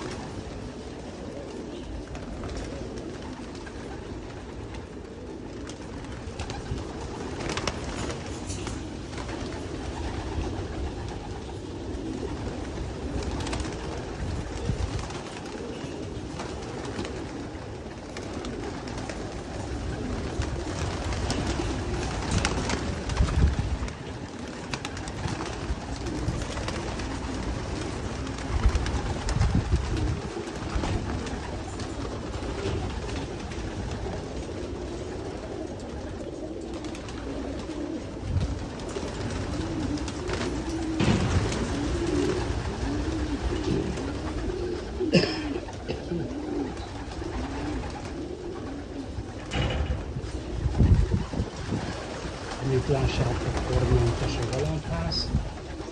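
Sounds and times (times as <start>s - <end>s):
pigeons cooing: 0.0s - 55.9s
wings flapping: 0.0s - 55.9s.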